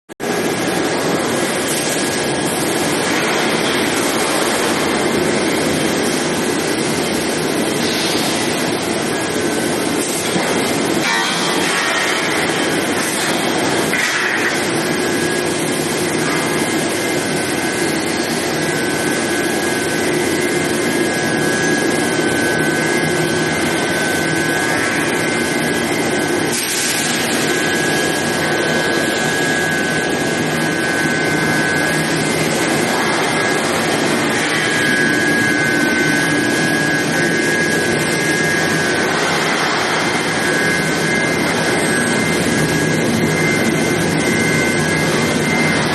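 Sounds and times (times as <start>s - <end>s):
high-pitched whine: 0.2s - 45.9s
machinery rushing hum: 0.2s - 45.9s.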